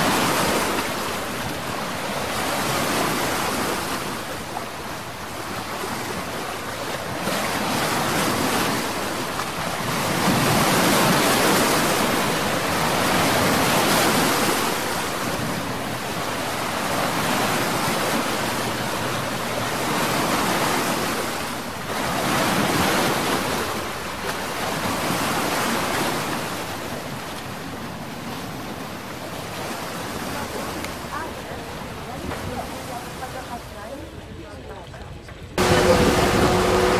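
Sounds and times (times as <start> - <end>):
sea water rushing: 0.0 - 36.9
wind: 0.0 - 36.9.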